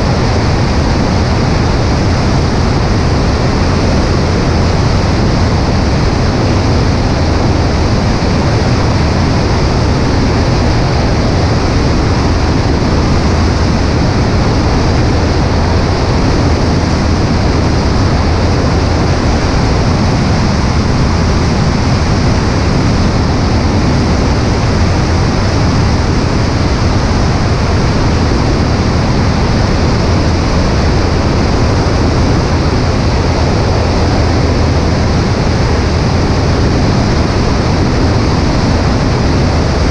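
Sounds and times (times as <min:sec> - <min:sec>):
aircraft engine drone: 0:00.0 - 0:39.9
wind rushing over microphone: 0:00.0 - 0:39.9.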